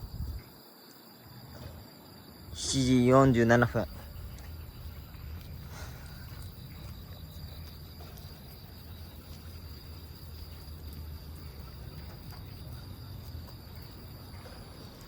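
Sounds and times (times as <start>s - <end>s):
crickets trilling: 0.0s - 15.0s
pulsing insect trill: 0.0s - 15.0s.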